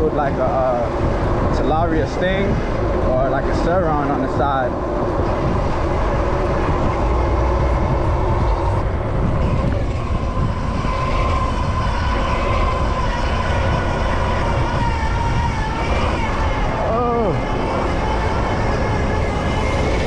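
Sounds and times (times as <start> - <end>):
steady whine: 0.0 - 20.0
street traffic: 0.0 - 20.0
wind rumble on microphone: 0.0 - 20.0.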